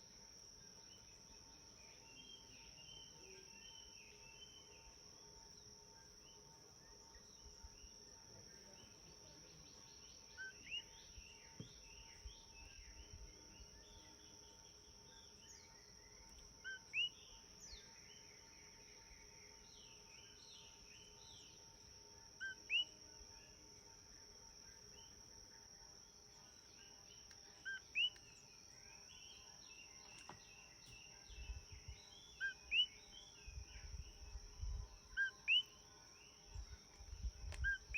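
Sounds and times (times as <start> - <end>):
insect drone: 0.0 - 37.9
soft bird chirps: 7.1 - 37.9.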